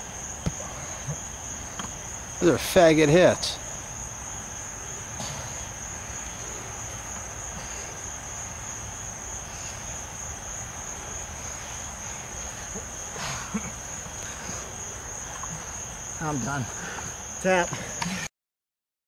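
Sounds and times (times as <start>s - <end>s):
crickets trilling: 0.0s - 18.3s.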